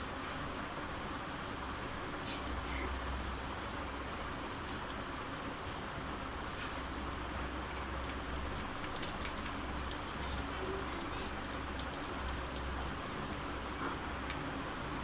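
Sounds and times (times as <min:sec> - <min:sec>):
steady low hum and hiss: 0:00.0 - 0:15.0.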